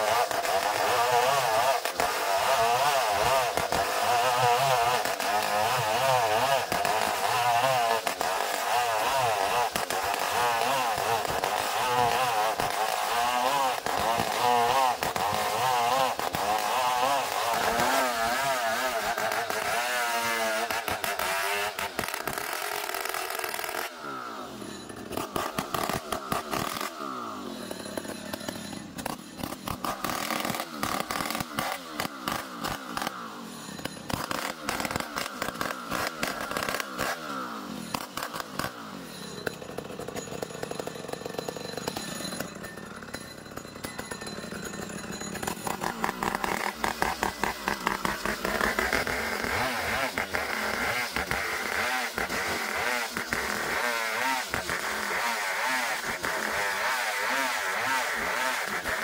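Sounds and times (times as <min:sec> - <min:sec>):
petrol engine of sawing machine: 0:00.0 - 0:59.0
saw blade cutting wood: 0:00.0 - 0:59.0.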